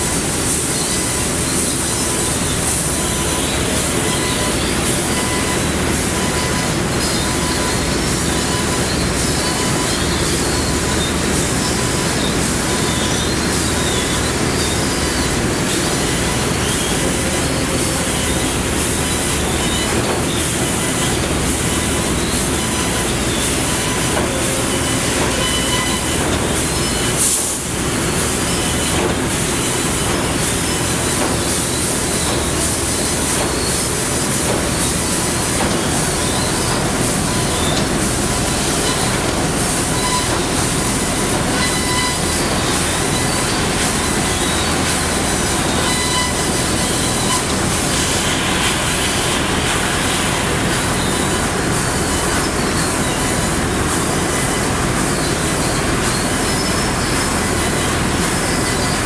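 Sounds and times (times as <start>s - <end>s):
laser cutter hiss and machine noise: 0.0s - 59.0s.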